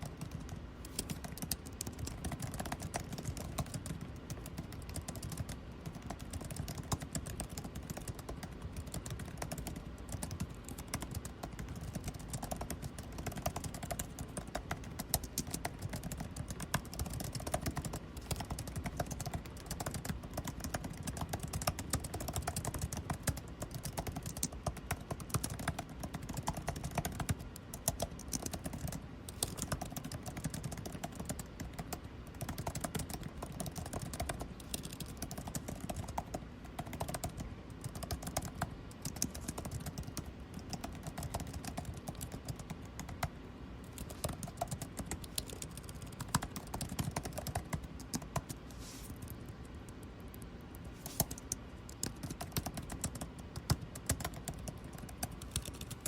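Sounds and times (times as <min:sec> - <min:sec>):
air-conditioning hum: 0:00.0 - 0:56.0
typing on computer keyboard: 0:00.0 - 0:56.0.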